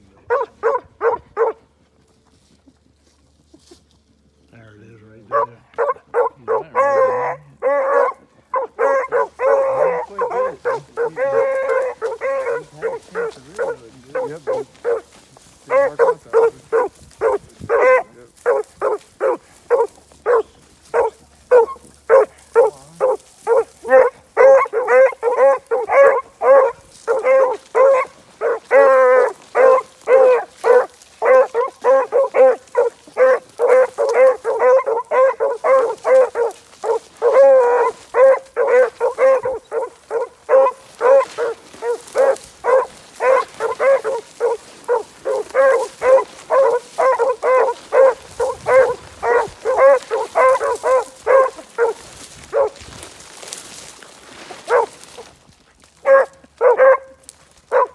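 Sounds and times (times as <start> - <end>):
dogs baying: 0.1 - 1.8, 5.2 - 57.9.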